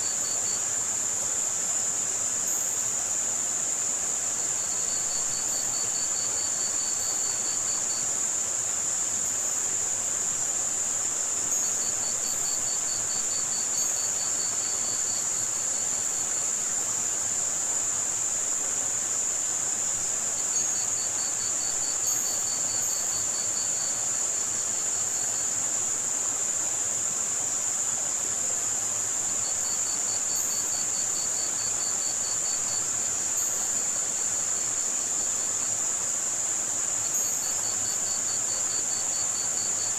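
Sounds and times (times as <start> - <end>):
cricket trills: 0.0 - 39.9
high-pitched white noise: 0.0 - 39.9.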